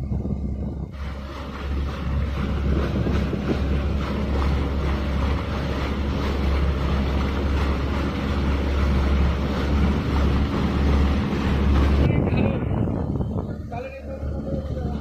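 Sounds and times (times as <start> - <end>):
boat engine running: 0.0 - 15.0
water rushing along hull: 0.0 - 15.0
wind buffeting microphone: 0.0 - 15.0.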